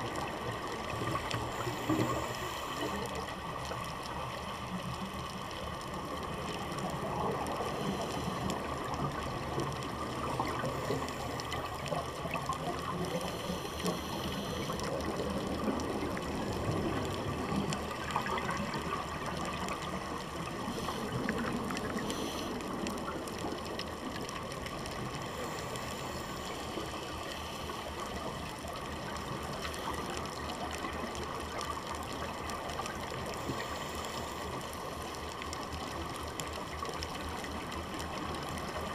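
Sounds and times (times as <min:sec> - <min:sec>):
faint clicks: 0:00.0 - 0:38.9
muffled underwater rush: 0:00.0 - 0:38.9.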